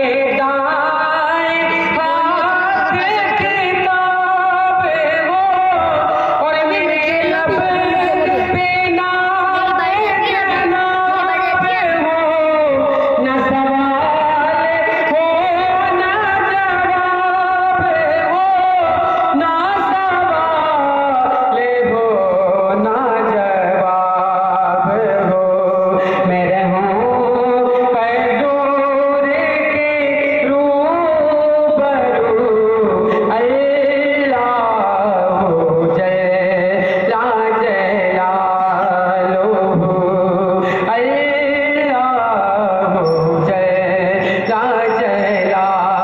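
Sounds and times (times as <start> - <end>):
man chanting into a microphone: 0.0 - 46.0
man singing a hymn: 0.0 - 46.0.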